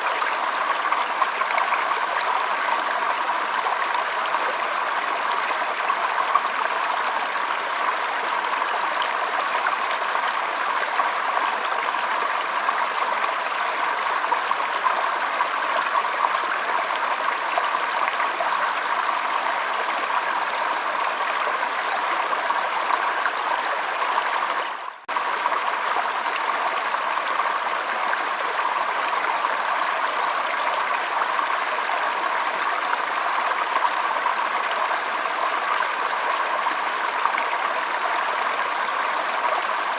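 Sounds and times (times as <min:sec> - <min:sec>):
water flowing steadily: 0:00.0 - 0:39.9.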